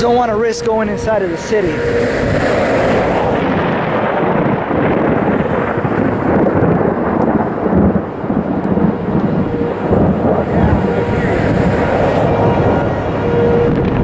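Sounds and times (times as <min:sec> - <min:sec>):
thunder rumbling: 0:00.0 - 0:14.0.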